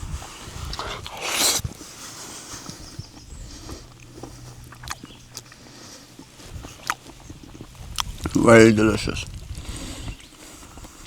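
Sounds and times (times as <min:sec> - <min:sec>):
person chewing: 0:00.6 - 0:11.0.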